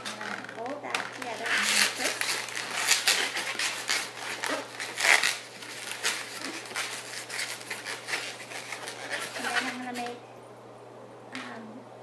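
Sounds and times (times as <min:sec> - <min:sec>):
balloons rubbing under hands: 0:00.0 - 0:10.0.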